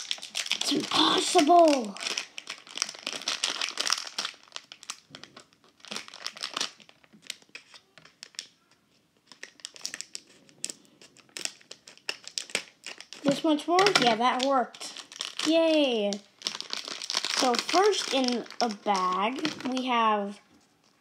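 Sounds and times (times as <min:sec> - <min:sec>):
foil bag crinkling: 0:00.0 - 0:08.5, 0:09.2 - 0:21.0.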